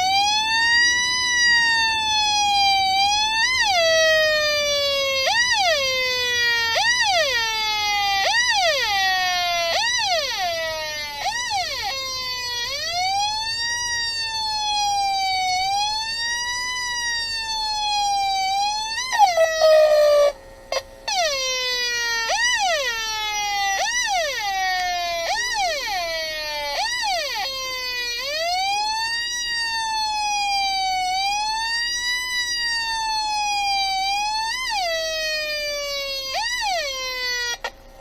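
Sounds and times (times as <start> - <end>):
electronic siren yelping and wailing: 0.0 - 38.0.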